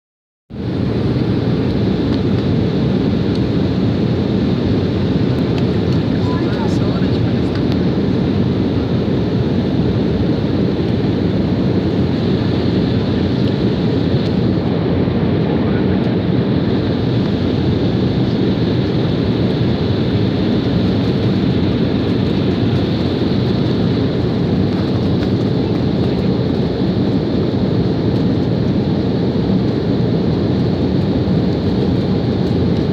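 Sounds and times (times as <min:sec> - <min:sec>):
airplane cabin engine noise: 0:00.5 - 0:32.9.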